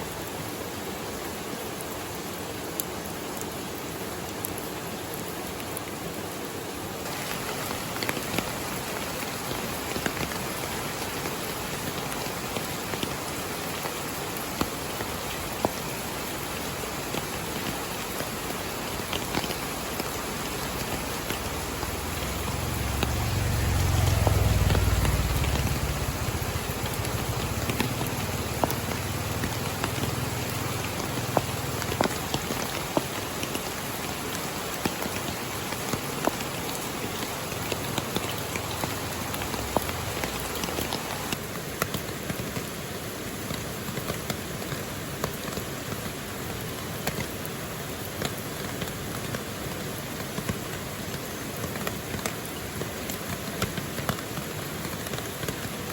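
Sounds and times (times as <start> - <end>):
steady rainfall: 0.0 - 55.9.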